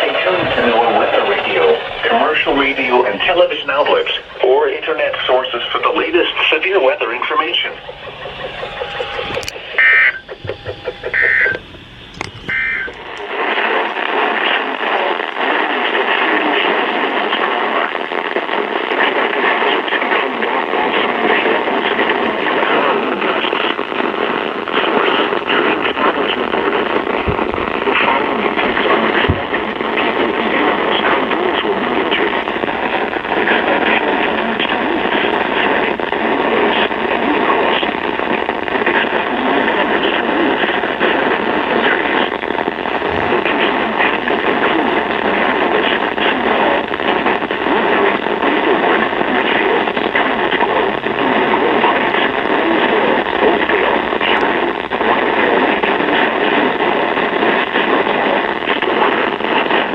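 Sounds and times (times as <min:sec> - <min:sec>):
radio static hiss and crackle: 0:00.0 - 0:59.9.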